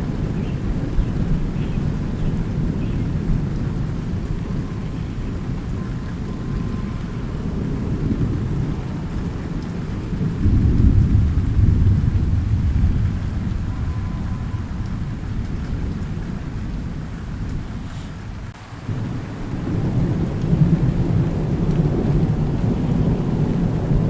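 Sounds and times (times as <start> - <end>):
rolling thunder: 0.0 - 24.0
steady rain: 0.0 - 24.0.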